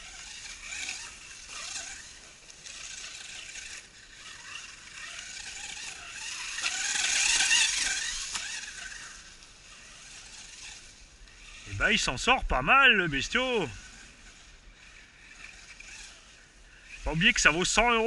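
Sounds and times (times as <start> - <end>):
rc truck electric motor whining: 0.0 - 18.0.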